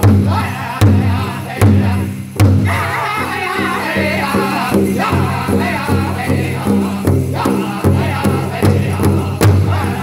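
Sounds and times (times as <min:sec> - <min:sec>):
men singing together: 0:00.0 - 0:10.0
steady hide drum beat: 0:00.0 - 0:10.0.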